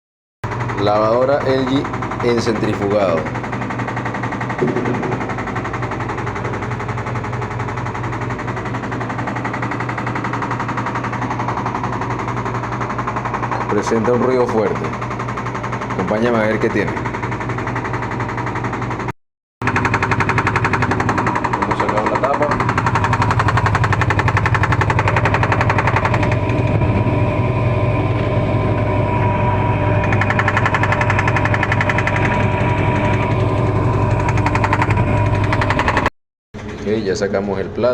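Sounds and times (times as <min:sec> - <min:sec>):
washing machine spin rattling: 0:00.5 - 0:37.3
motor hum: 0:00.5 - 0:37.9.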